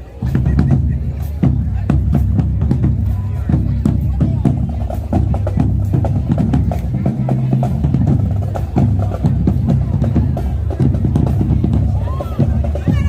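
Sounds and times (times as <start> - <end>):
drums striking busy rhythm: 0.0 - 13.0.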